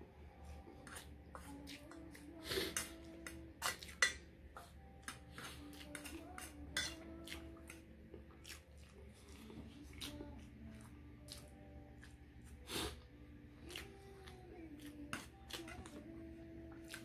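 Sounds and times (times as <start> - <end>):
chewing: 0.5 - 16.1, 16.7 - 17.0.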